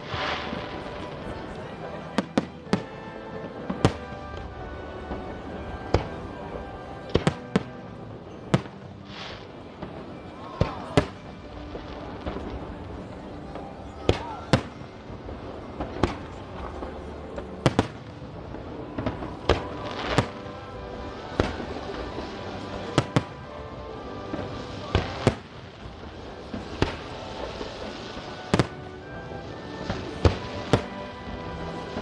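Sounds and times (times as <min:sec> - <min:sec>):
background music: 0:00.0 - 0:32.0
fireworks bangs: 0:00.0 - 0:32.0.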